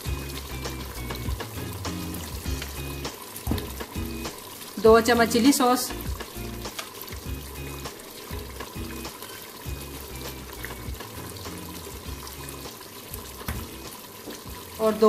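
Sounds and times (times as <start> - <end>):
meat sizzling: 0.0 - 15.0
soft music: 0.0 - 15.0.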